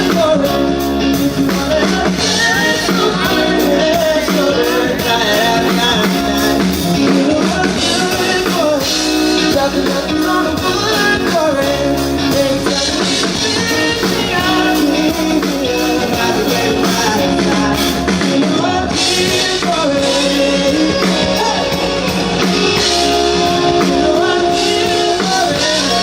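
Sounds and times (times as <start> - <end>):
live pop-rock band: 0.0 - 26.0
person singing: 0.0 - 26.0.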